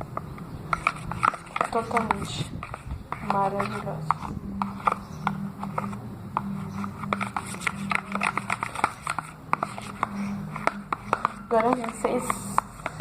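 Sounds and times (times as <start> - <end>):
low steady hum: 0.0 - 13.0
utensil tapping against bowl: 0.2 - 13.0.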